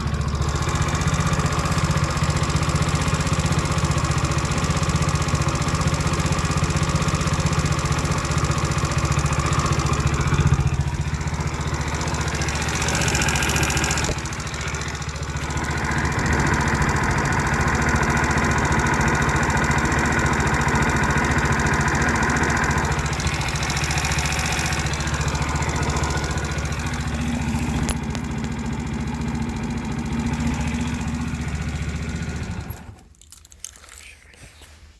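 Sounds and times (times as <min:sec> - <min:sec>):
scooter engine running with knock: 0:00.0 - 0:33.0.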